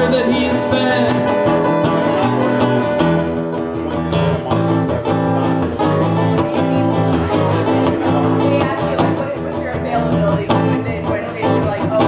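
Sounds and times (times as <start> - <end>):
acoustic plucked strings: 0.0 - 12.0.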